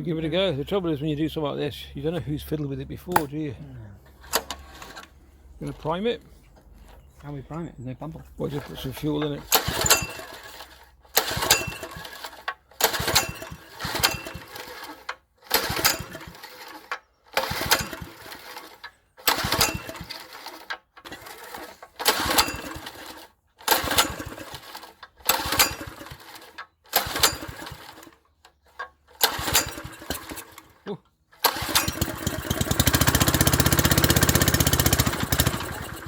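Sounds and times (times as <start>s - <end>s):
engine cranking on pull-start: 3.1s - 3.3s, 4.1s - 6.0s, 8.4s - 36.0s.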